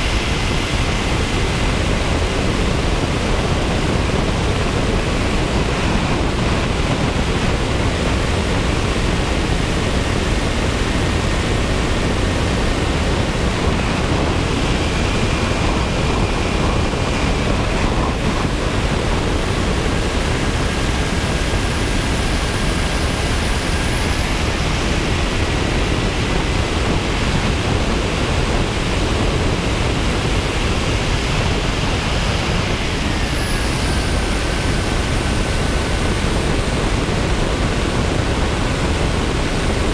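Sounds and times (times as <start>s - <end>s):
high motor whine: 0.0s - 39.9s.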